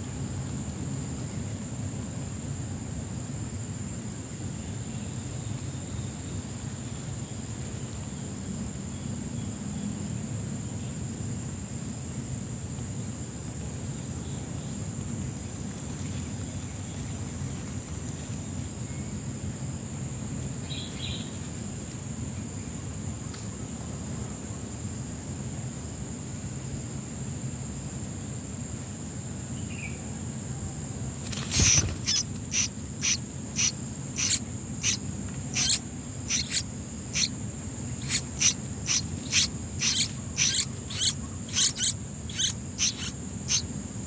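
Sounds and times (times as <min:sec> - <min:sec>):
insect drone: 0:00.0 - 0:44.0.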